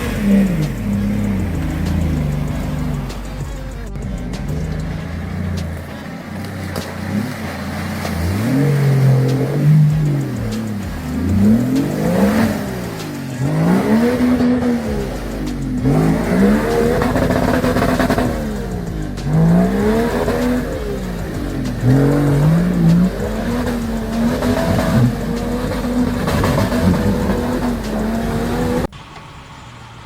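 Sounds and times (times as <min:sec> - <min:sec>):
engine revving hard: 0:00.0 - 0:28.9.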